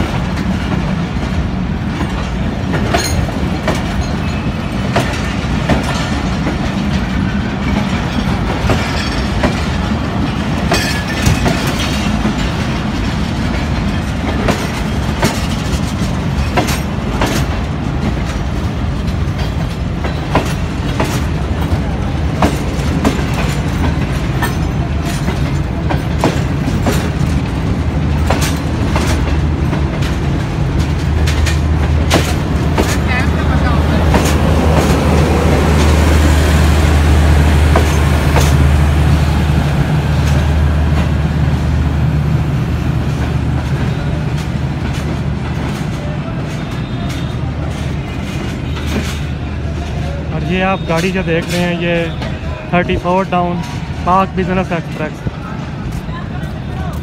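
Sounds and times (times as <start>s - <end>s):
wheels clicking over rail joints: 0.0s - 38.8s, 43.0s - 57.0s
train wheels rumbling on rails: 0.0s - 57.0s.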